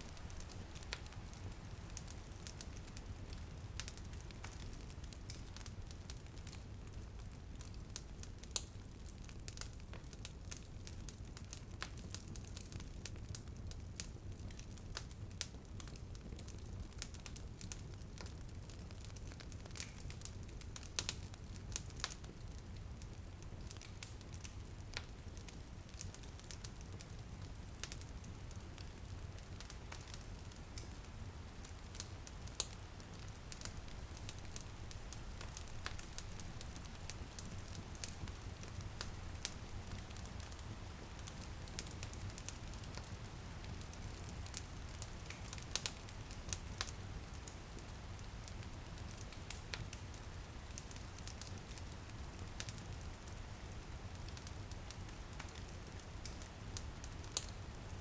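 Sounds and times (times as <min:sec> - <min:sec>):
rain pattering on window: 0:00.0 - 0:58.0
wood fire crackling: 0:00.0 - 0:58.0.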